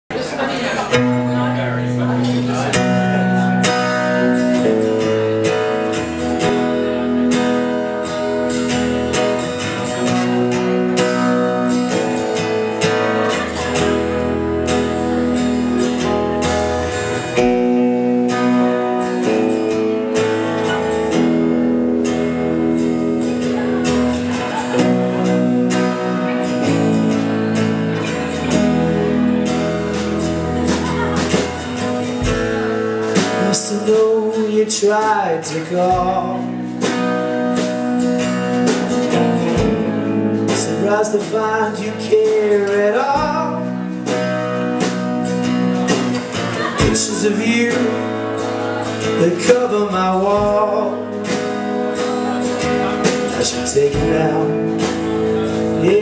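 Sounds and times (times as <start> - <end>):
bass notes: 0.1 - 56.0
electric guitar: 0.1 - 56.0
keyboard: 0.1 - 56.0
strummed acoustic guitar: 0.1 - 56.0.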